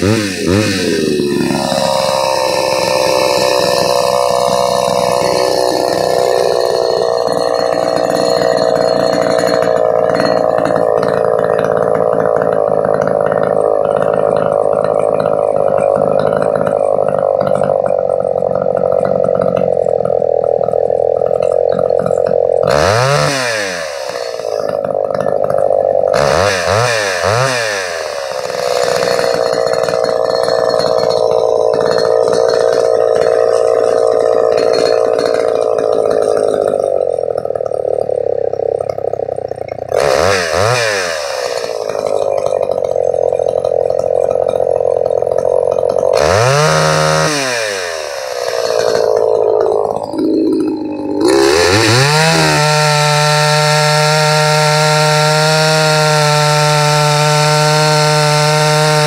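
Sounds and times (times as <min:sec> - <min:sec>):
chainsaw running at high revs: 0:00.0 - 0:59.0.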